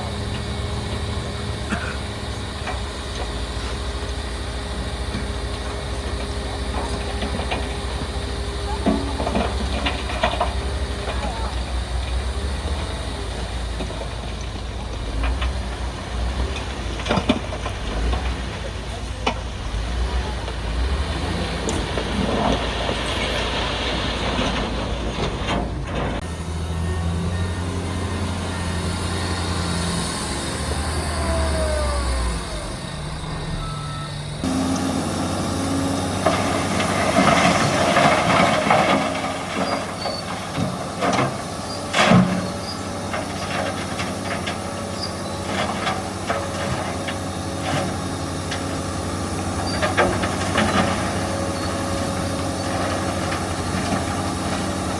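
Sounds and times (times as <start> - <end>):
heavy machinery diesel engines: 0.0 - 54.9.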